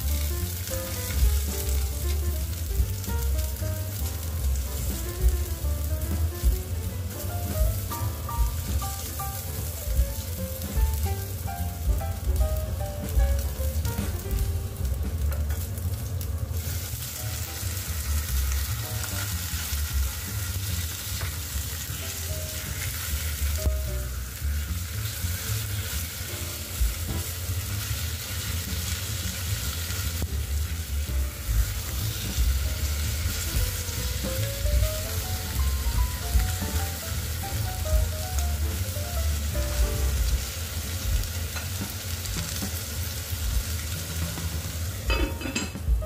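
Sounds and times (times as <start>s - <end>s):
chicken frying in a pot: 0.0s - 46.0s.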